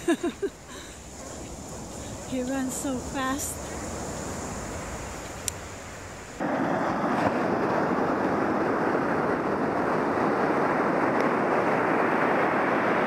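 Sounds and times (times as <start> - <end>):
surf breaking and washing: 0.0 - 13.0
wind on the microphone: 0.0 - 13.0.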